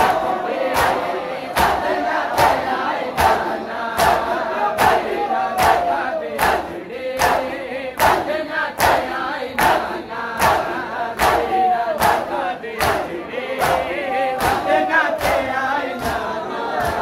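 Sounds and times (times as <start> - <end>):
crowd chanting: 0.0 - 17.0
hands slapping chests in unison: 0.0 - 17.0.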